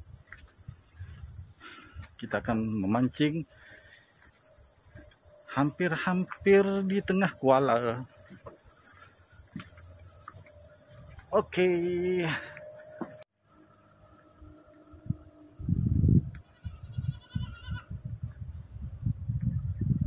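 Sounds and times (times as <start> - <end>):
insects buzzing chorus: 0.0 - 20.0.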